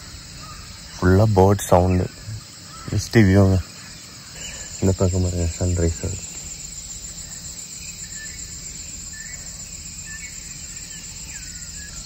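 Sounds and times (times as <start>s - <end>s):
insects chorus: 0.0s - 12.0s
faint bird chirps and whistles: 2.0s - 12.0s.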